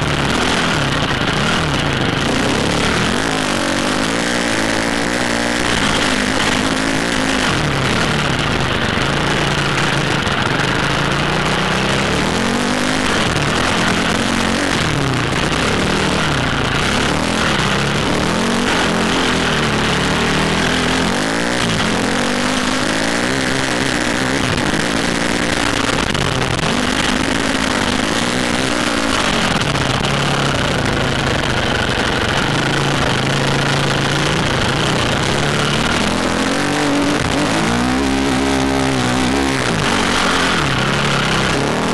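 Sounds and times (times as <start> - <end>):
dirt bike engine revving: 0.0 - 41.9
steady rushing noise: 0.0 - 41.9.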